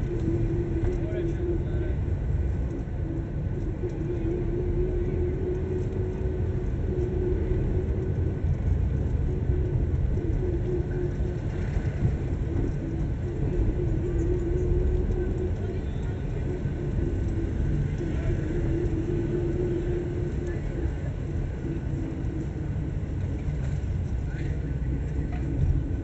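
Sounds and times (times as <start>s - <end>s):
car engine rumble: 0.0s - 26.0s
hum: 0.0s - 26.0s
road rumble: 0.0s - 26.0s.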